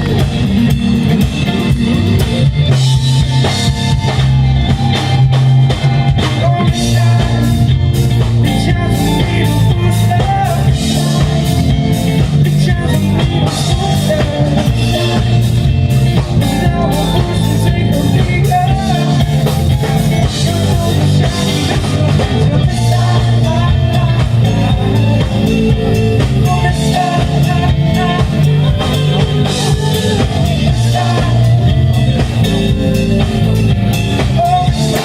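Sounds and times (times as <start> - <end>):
drum kit with cymbals: 0.0 - 35.0
guitars and bass: 0.0 - 35.0
person singing: 2.9 - 33.0, 34.1 - 35.0.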